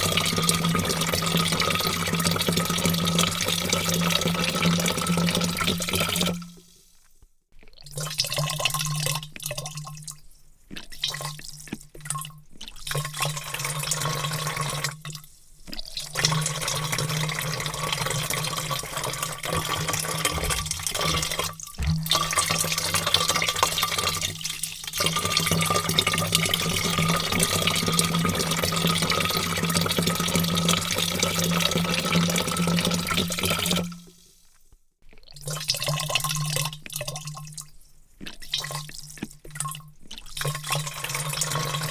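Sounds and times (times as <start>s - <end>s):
water pouring into a vat: 0.0s - 41.9s.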